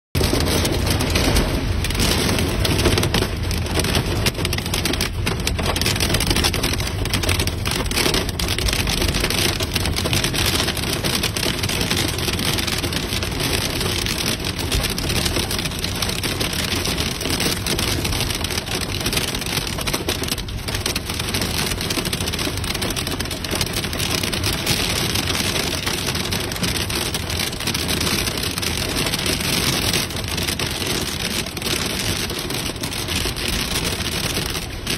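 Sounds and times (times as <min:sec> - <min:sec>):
heavy rain on car roof: 0:00.2 - 0:34.9.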